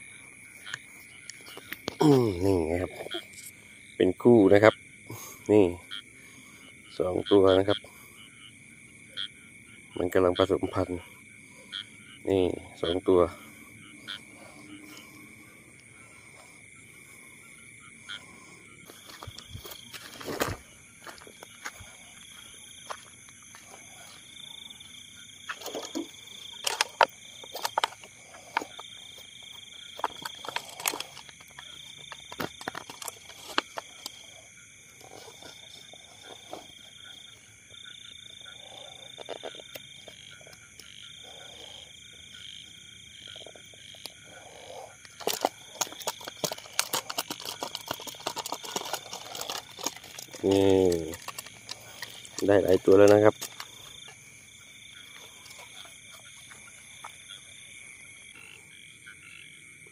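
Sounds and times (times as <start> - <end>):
frogs and insects trilling: 0.0 - 59.9.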